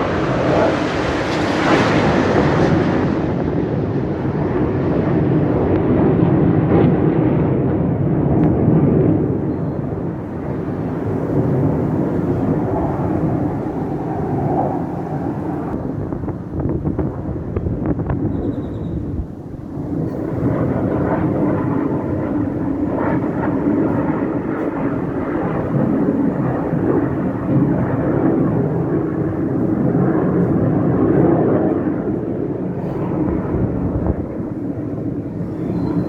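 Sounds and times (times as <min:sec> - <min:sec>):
aircraft flying past: 0:00.0 - 0:36.0.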